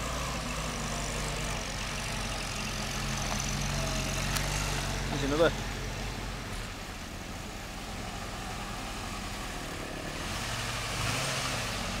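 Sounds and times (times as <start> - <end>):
military vehicle engines running: 0.0 - 11.0.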